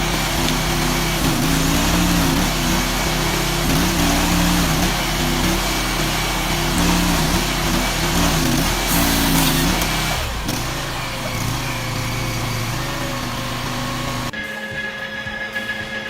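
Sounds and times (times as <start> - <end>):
engine running: 0.0 - 14.4.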